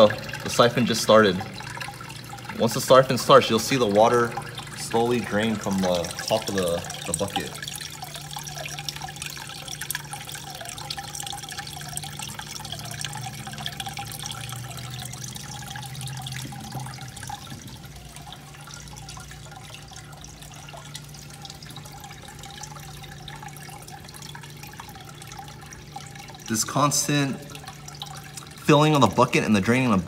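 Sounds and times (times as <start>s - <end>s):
steady low hum: 0.0s - 30.0s
water drips: 0.0s - 30.0s
water splashing and trickling: 0.0s - 30.0s.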